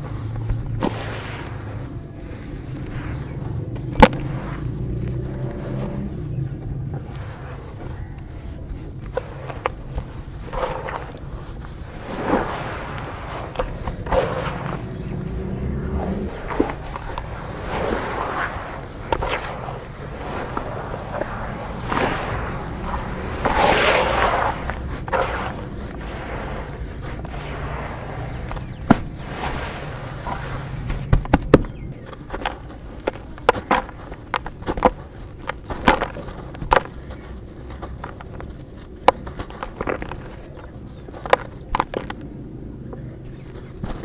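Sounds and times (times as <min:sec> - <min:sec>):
dirt crumbling and crunching: 0:00.0 - 0:44.0.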